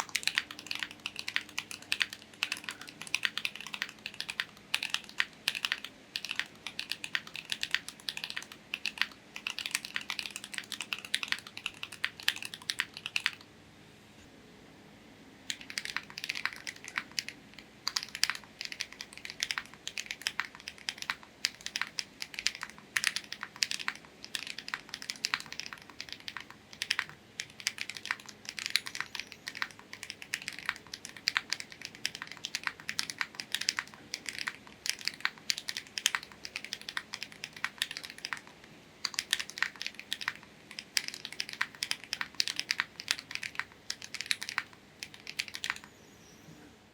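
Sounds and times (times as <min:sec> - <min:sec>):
mechanical keyboard typing: 0:00.0 - 0:13.5, 0:15.5 - 0:45.9.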